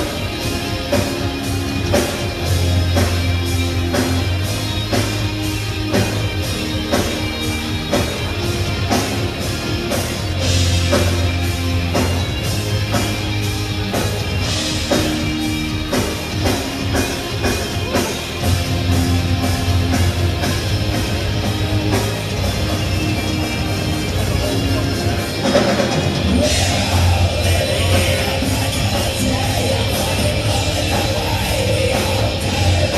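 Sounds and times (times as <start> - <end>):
drum kit beat: 0.0 - 32.9
loud electric guitars: 0.0 - 32.9.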